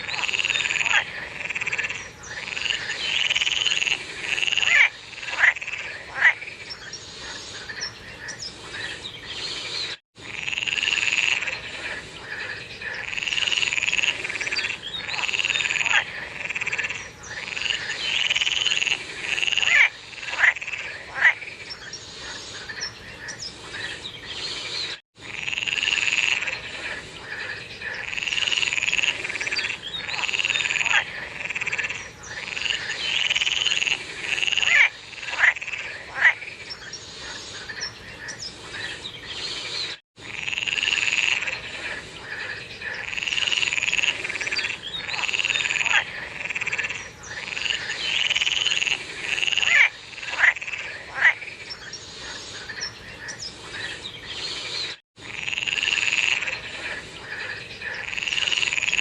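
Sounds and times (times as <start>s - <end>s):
frogs croaking chorus: 0.0s - 24.6s, 25.2s - 39.6s, 40.2s - 54.4s, 55.2s - 59.0s.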